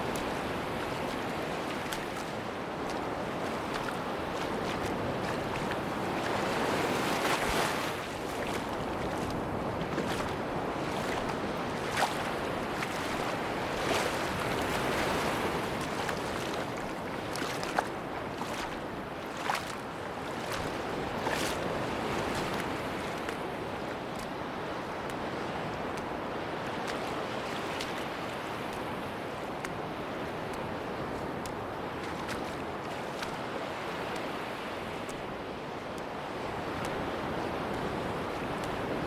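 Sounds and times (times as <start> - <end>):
sea waves washing onto beach: 0.0 - 39.0.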